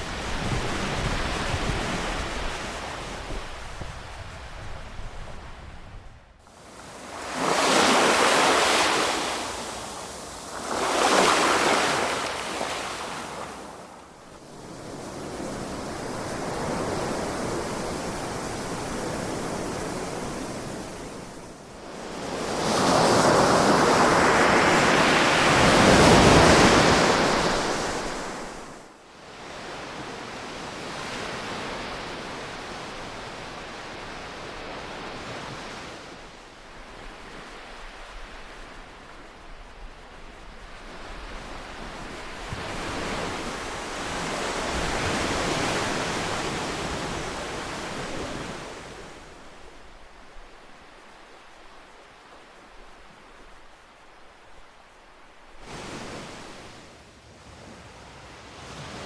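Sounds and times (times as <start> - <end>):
hiss of surf: 0.0 - 5.8, 6.4 - 59.0
ocean waves washing on shore: 0.0 - 59.0.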